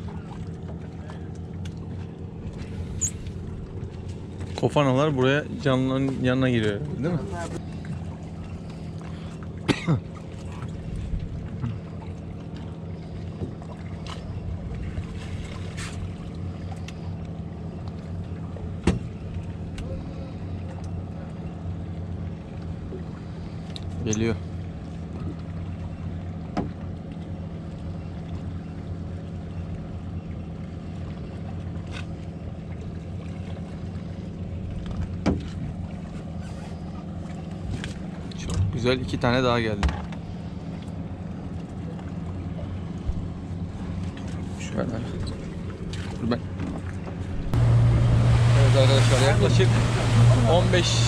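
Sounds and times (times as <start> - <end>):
boat engine idling: 0.0 - 51.0.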